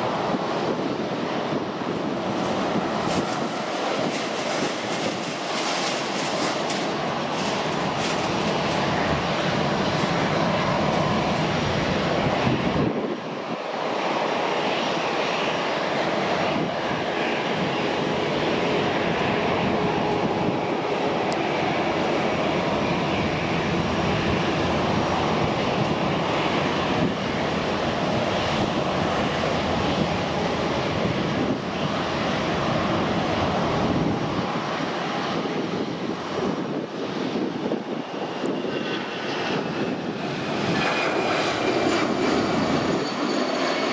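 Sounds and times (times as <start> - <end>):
jet engines idling: 0.0 - 43.9.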